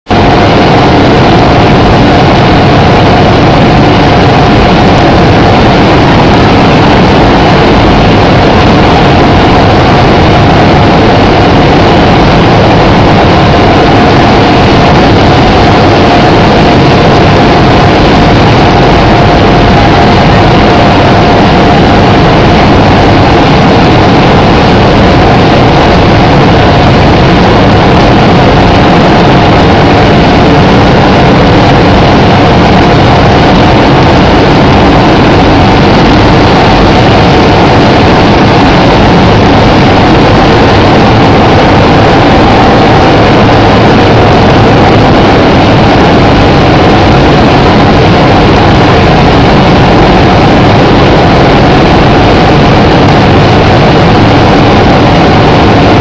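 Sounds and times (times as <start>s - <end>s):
steady machine whine: 0.0s - 56.0s.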